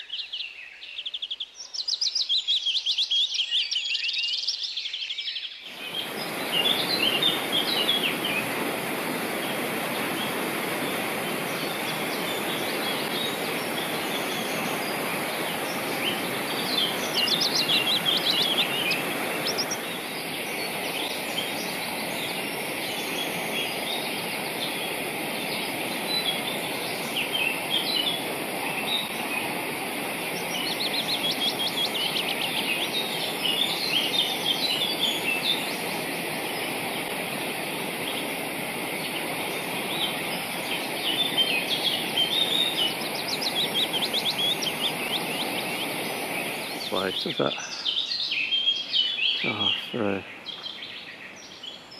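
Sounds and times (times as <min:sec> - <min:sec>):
songbirds chirping: 0:00.0 - 0:51.9
running water: 0:05.7 - 0:47.9.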